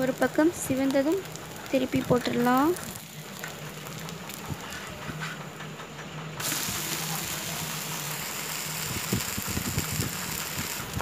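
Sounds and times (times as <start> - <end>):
batter sizzling on hot pan: 0.0 - 5.2, 6.4 - 11.0.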